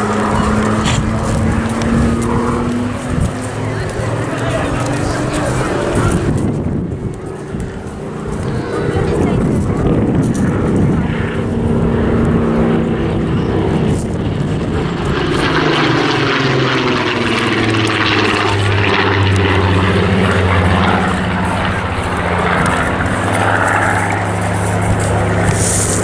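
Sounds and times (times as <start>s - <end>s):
aircraft piston engine drone: 0.0s - 26.0s.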